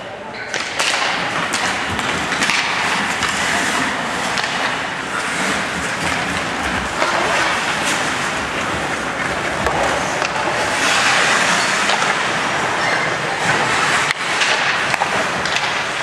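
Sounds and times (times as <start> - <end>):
hockey stick or puck clicks: 0.4 - 12.3, 13.5 - 16.0
skates scraping on ice: 0.5 - 16.0.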